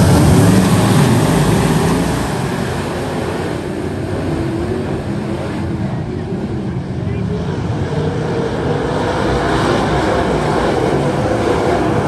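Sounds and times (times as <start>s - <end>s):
sprint car engines racing: 0.0s - 12.0s.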